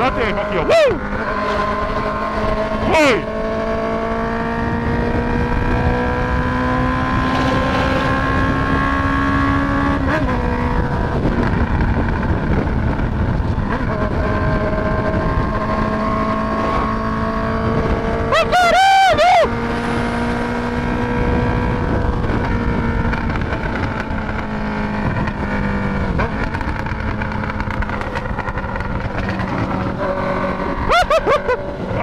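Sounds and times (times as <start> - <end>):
motorcycle engine at speed: 0.0 - 32.0
motorcycle engine revving: 0.0 - 32.0
road and wind noise: 0.0 - 32.0.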